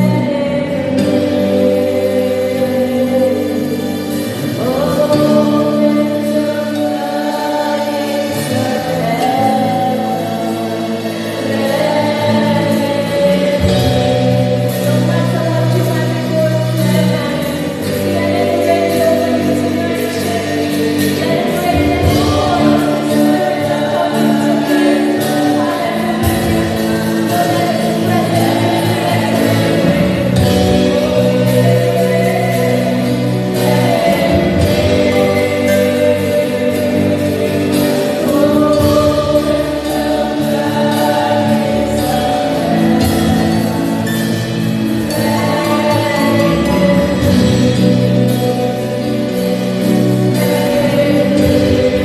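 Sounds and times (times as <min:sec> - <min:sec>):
congregation singing: 0:00.0 - 0:52.0
keyboard and bass: 0:00.0 - 0:52.0.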